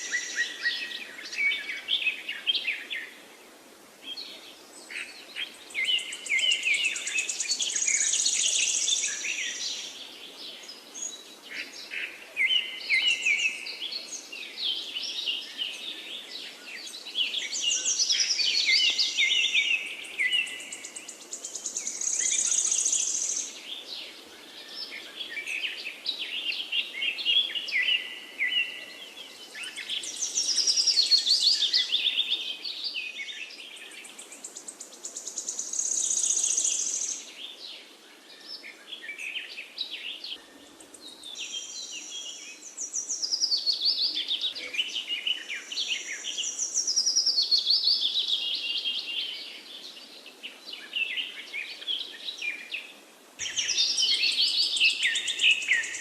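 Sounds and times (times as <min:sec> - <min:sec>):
steady background hiss: 0:00.0 - 0:56.0
songbirds trilling: 0:04.1 - 0:56.0.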